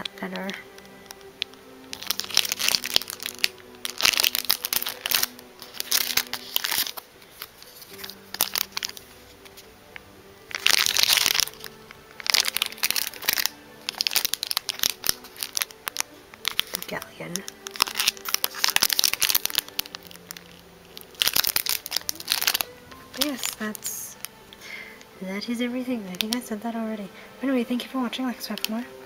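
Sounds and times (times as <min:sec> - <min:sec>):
plastic bag crinkling: 0:00.0 - 0:09.7, 0:10.4 - 0:26.6, 0:28.4 - 0:29.0
faint background music: 0:00.0 - 0:29.0.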